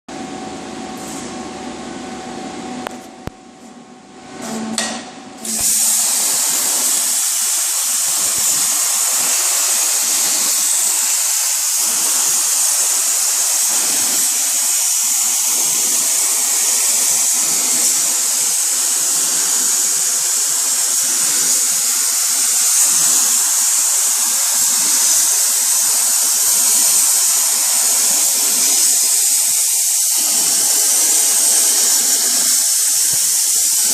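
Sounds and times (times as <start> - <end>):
plasma cutter hissing: 5.4 - 33.9.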